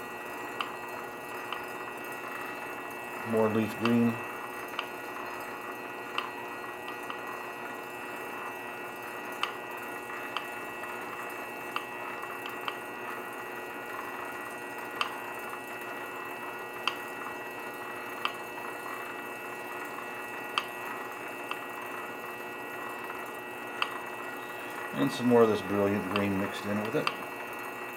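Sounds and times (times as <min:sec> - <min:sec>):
lathe motor hum and whine: 0:00.0 - 0:27.9.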